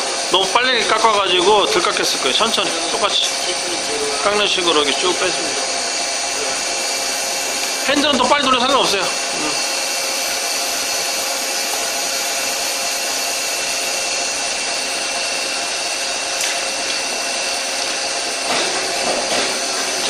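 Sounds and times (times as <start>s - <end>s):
lathe running with whining tones: 0.0s - 20.0s.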